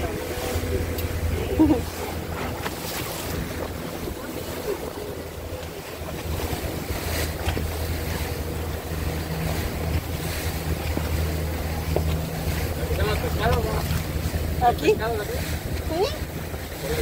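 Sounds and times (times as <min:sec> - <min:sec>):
boat engine running: 0:00.0 - 0:17.0
water rushing past hull: 0:00.0 - 0:17.0
wind buffeting microphone: 0:00.0 - 0:17.0.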